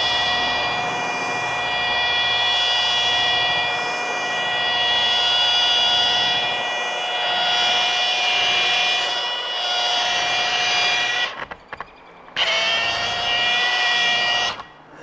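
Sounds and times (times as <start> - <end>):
polisher motor whine: 0.0 - 11.4, 12.4 - 14.8.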